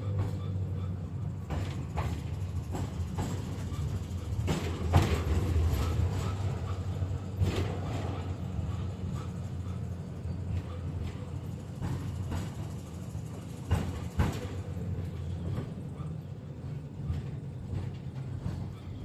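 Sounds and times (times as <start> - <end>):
tram running along track: 0.0 - 19.0.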